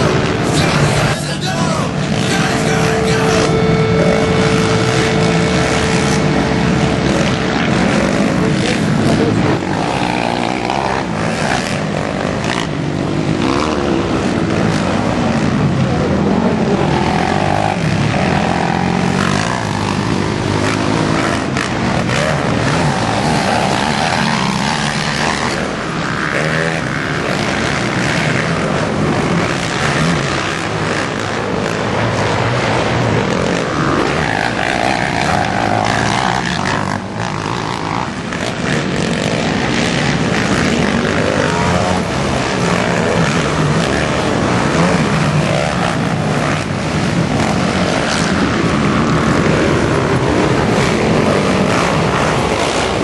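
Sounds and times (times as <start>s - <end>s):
quad engines revving: 0.0s - 53.0s.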